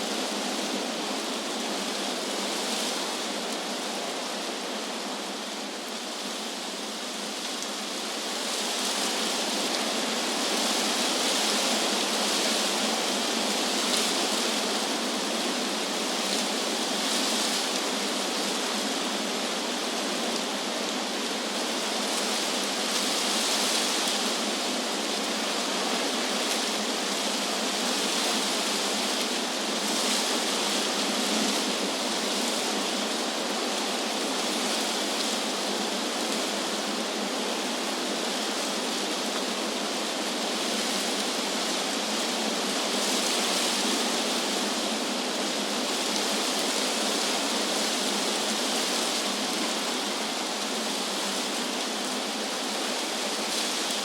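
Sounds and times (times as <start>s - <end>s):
wind rustling leaves: 0.0s - 54.0s.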